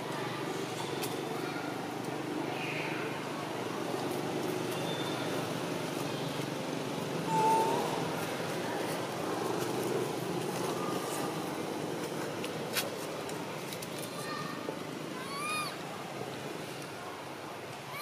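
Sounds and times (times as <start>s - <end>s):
distant traffic: 0.0s - 18.0s.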